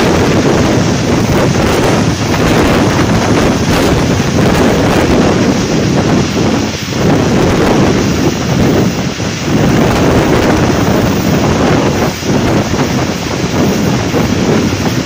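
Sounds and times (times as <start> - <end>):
train running rumble: 0.0 - 15.0
wind buffeting microphone: 0.0 - 15.0.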